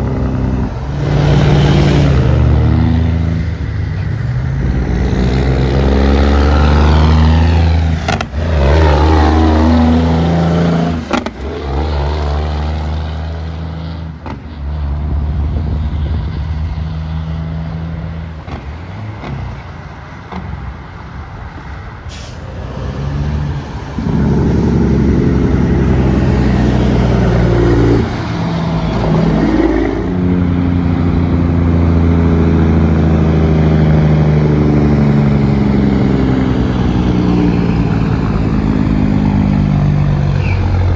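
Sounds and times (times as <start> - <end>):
quieter traffic: 0.0 - 40.9
truck diesel engines passing: 0.0 - 40.9.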